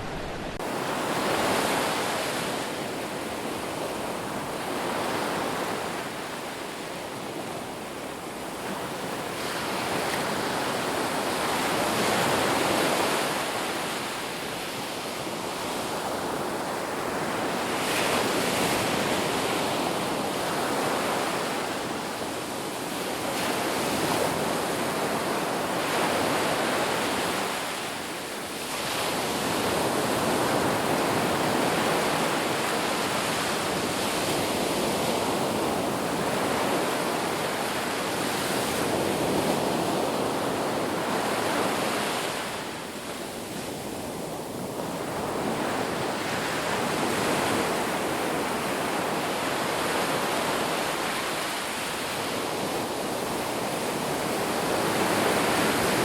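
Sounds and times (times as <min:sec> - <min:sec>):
ocean waves: 0:00.0 - 0:56.0.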